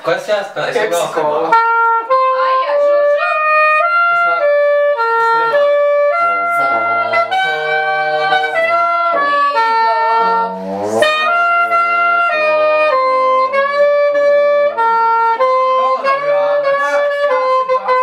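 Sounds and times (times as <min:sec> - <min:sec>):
trombone playing jazz: 0:01.5 - 0:18.0
wind instruments: 0:01.5 - 0:18.0.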